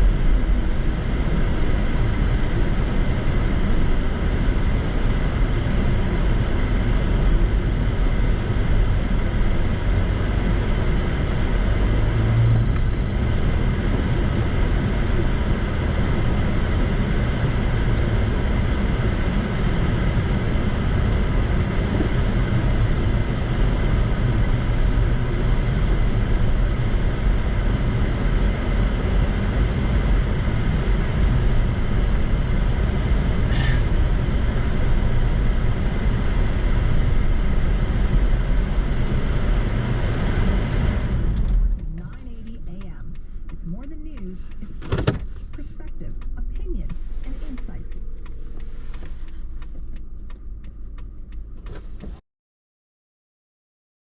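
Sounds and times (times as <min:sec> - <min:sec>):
car engine and road noise: 0:00.0 - 0:52.2.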